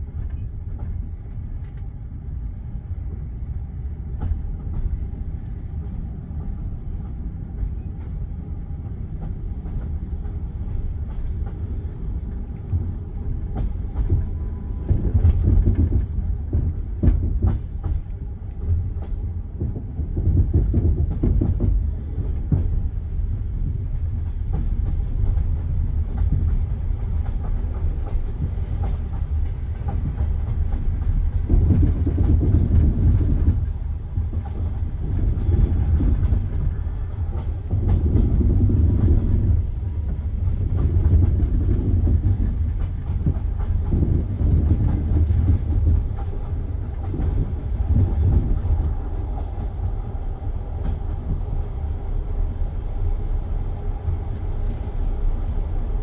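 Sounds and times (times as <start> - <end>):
train carriage rumble: 0.0 - 56.0.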